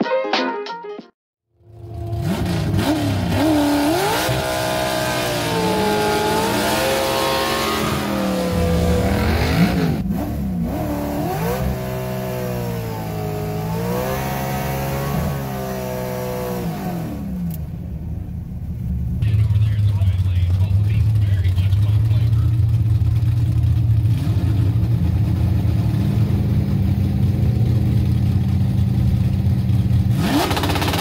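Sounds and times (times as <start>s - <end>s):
car engine revving: 1.6s - 31.0s.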